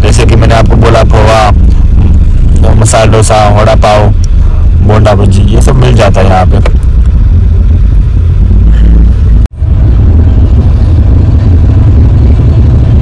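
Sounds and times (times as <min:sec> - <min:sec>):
bus road and engine rumble: 0:00.0 - 0:13.0.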